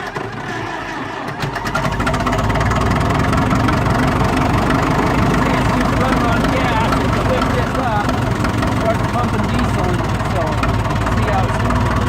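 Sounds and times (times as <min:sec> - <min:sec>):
engine cold starting: 0:00.0 - 0:12.0.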